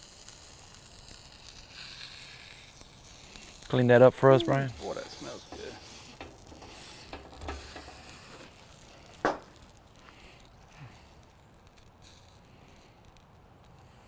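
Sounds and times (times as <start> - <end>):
wire brush scraping grill grates: 0.0 - 14.0.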